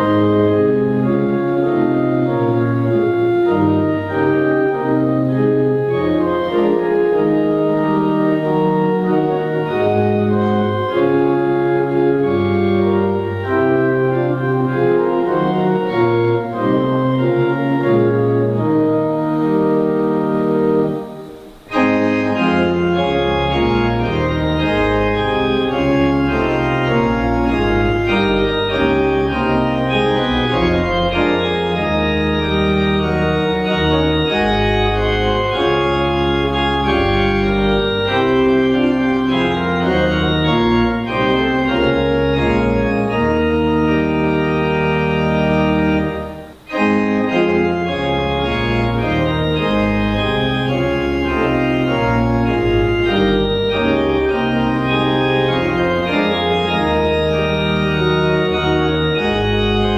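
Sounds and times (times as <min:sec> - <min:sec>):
organ playing hymn chords: 0:00.0 - 0:59.9.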